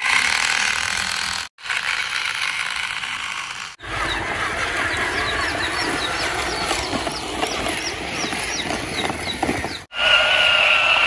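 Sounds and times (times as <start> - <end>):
toy motor whine: 0.0 - 9.2, 9.9 - 11.0
toy motor and gears whirring: 0.0 - 11.0.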